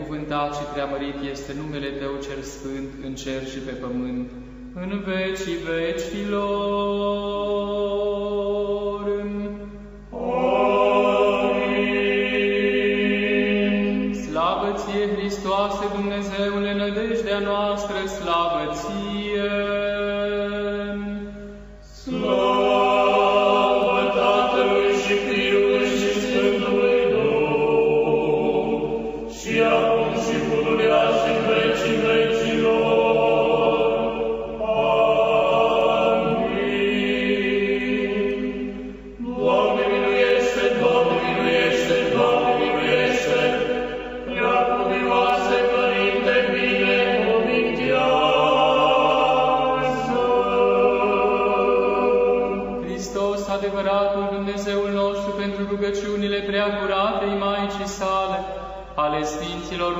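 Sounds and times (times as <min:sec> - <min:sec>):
choir singing a chant: 0:04.8 - 0:55.4.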